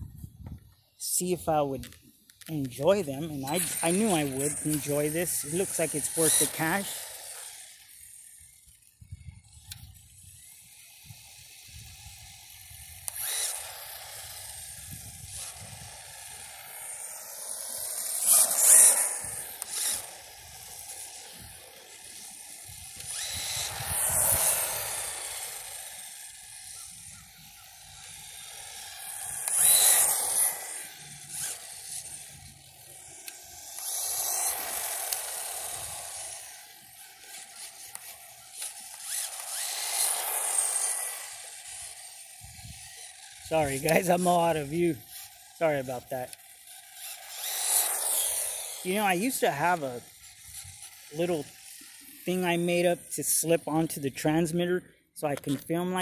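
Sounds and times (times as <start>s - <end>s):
electric motor whine: 0.1s - 54.7s.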